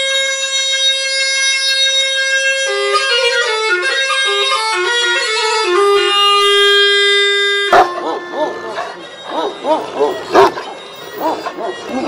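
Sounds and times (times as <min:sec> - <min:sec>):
reedy wind instrument melody: 0:00.0 - 0:12.0.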